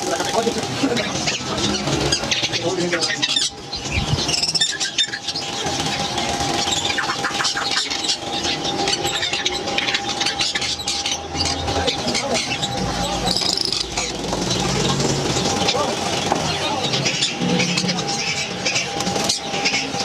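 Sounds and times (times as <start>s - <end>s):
parrots squawking and chattering: 0.0s - 20.0s.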